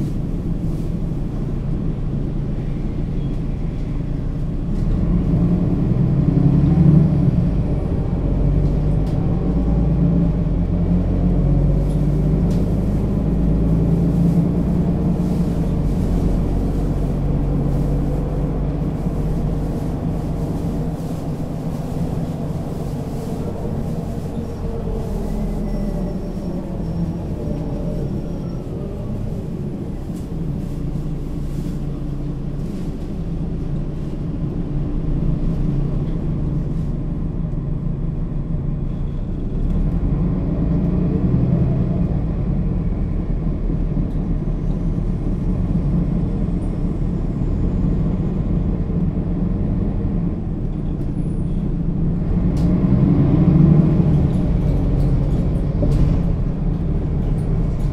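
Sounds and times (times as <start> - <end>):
bus engine drone: 0.0 - 57.9.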